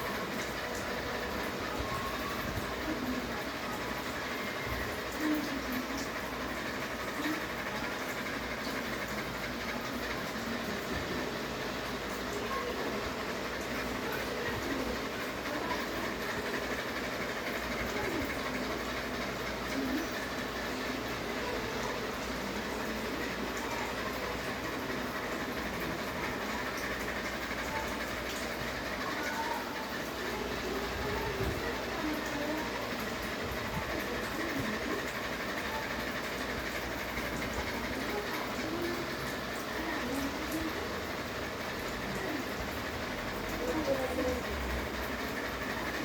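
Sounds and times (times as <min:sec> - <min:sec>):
ceiling fan whirring: 0:00.0 - 0:46.0.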